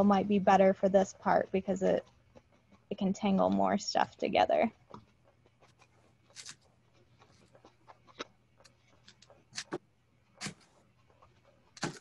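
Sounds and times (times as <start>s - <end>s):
felting needle scratchy pokes: 0.0s - 12.0s.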